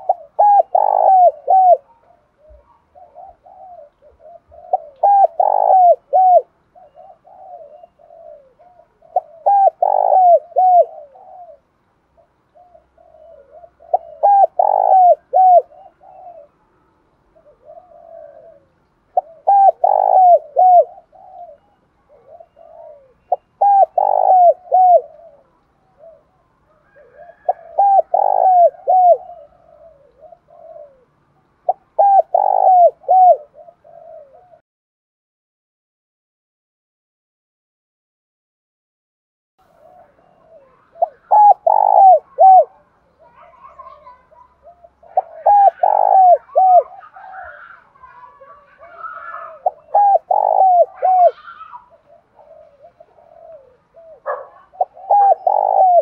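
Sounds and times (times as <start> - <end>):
dove cooing: 0.0 - 34.6, 39.7 - 56.0.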